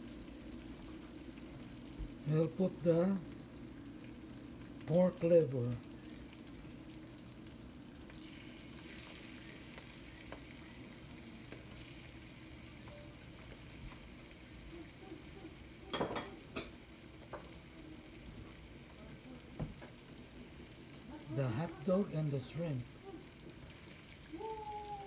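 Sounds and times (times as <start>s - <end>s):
liver sizzling in a pan: 0.0s - 25.0s.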